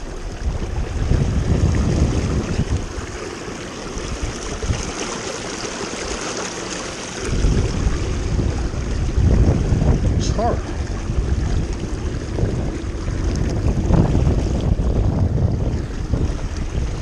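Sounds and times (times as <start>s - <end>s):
wind buffeting microphone: 0.0s - 6.3s, 7.0s - 17.0s
river water flowing: 0.0s - 17.0s.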